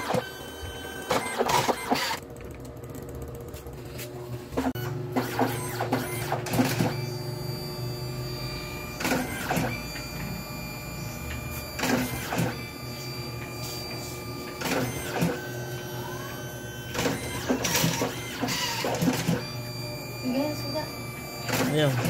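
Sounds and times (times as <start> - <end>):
printer noisy burst: 0.0 - 2.2, 4.6 - 22.0
photo printer whine: 0.0 - 2.3, 3.6 - 22.0.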